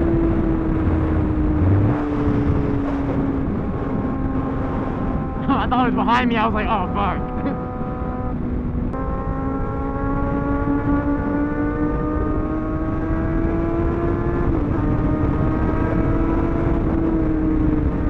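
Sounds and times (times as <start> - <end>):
motorcycle engine accelerating: 0.0 - 6.2, 6.8 - 18.0
wind noise on microphone: 0.0 - 18.0.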